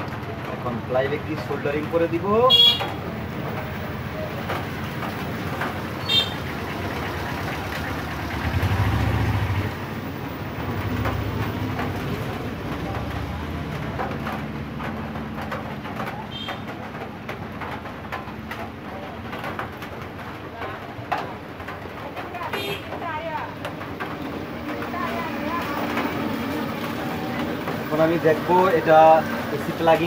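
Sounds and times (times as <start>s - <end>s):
steady background noise: 0.0s - 30.0s.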